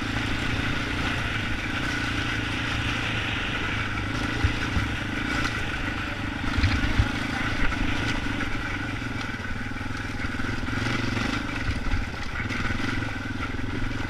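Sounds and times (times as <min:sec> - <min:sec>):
quad engine running: 0:00.0 - 0:14.0.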